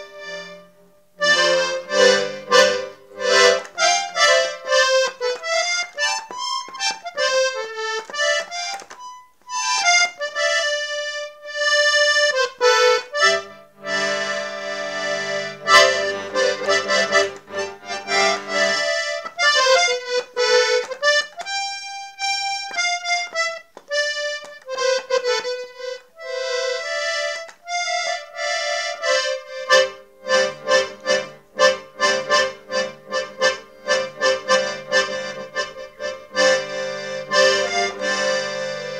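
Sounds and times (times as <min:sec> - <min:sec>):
accordion playing: 0:00.0 - 0:38.9.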